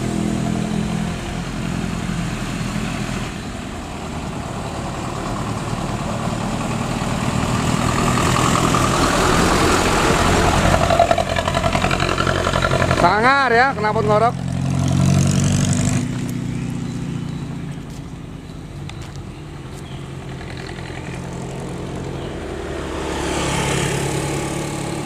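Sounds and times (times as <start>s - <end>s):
bus diesel engine rumbling: 0.0s - 25.0s.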